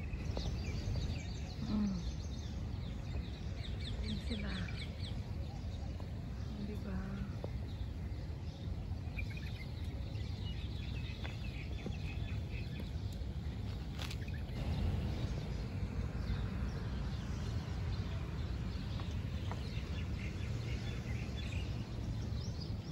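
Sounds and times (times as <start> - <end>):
birds chirping: 0.0 - 22.9
steady low rumble: 0.0 - 22.9.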